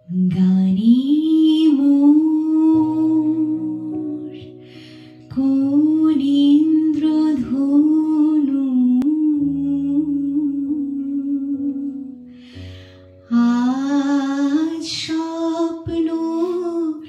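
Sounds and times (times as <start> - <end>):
woman singing: 0.0 - 4.6, 5.2 - 12.3, 13.2 - 17.0
held piano chords: 0.0 - 17.0.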